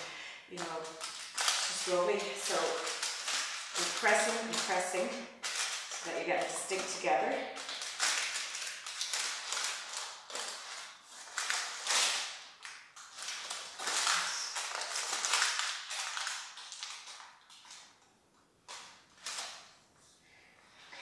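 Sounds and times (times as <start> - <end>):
baking paper crinkling: 0.0 - 20.1.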